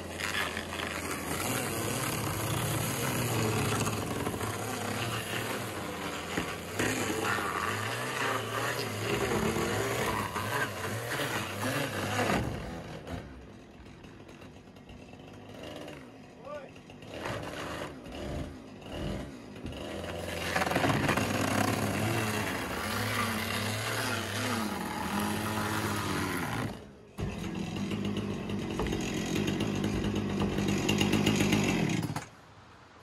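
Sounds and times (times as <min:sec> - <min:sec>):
chainsaw cutting: 0:00.0 - 0:32.4.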